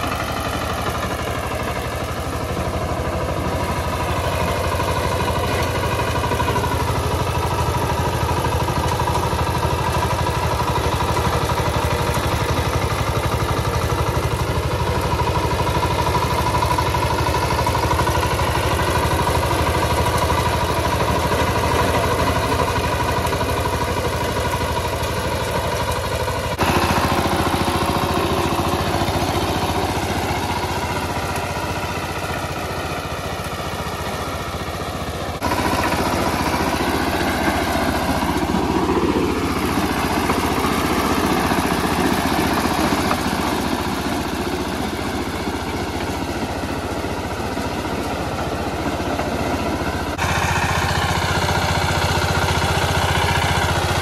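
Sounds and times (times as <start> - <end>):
tiller blades churning soil: 0.0 - 54.0
tiller diesel engine running: 0.0 - 54.0.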